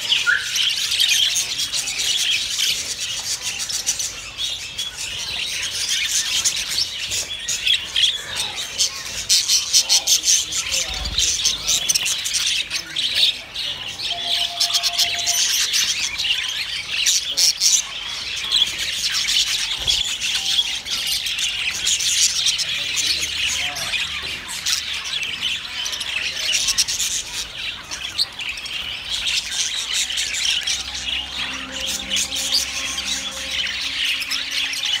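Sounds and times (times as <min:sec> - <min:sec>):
budgerigars chirping: 0:00.0 - 0:35.0.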